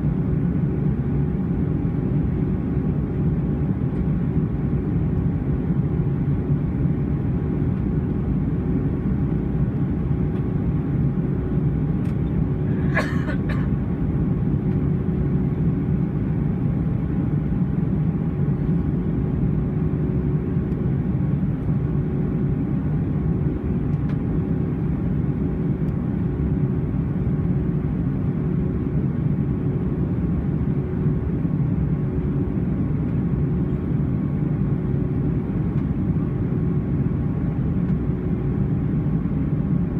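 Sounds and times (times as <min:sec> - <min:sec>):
airplane cabin engine rush: 0:00.0 - 0:39.9
faint steady hums: 0:00.0 - 0:39.9.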